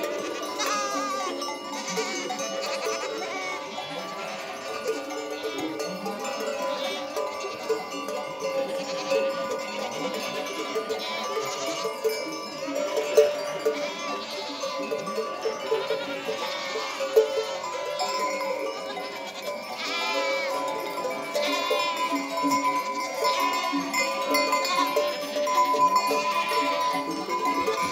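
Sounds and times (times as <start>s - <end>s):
goats bleating: 0.0s - 5.7s, 8.6s - 12.0s, 12.9s - 27.9s
goat bells clanking and ringing: 0.0s - 27.9s.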